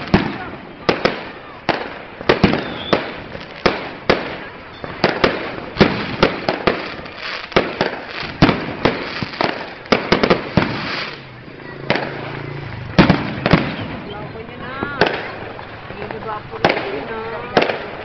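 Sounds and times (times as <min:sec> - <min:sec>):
fireworks bursting with sharp bangs: 0:00.0 - 0:18.0.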